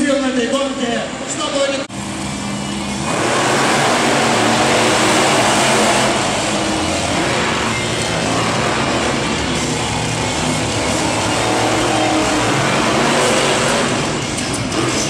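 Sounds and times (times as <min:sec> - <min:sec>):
monster truck engines running: 0:00.1 - 0:15.0.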